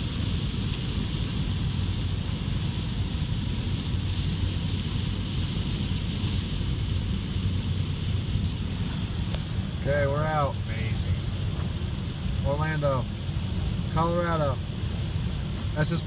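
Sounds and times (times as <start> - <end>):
rain hissing on car: 0.0 - 16.0
tyres rumbling on wet road: 0.0 - 16.0.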